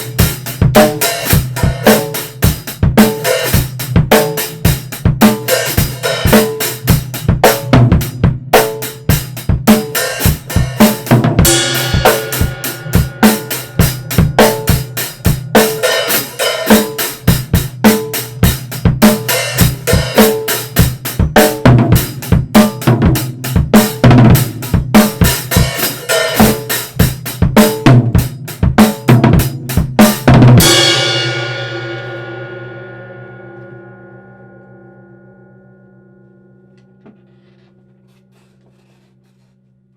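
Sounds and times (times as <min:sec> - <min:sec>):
acoustic drum kit groove: 0:00.0 - 0:32.3, 0:37.1 - 0:39.5.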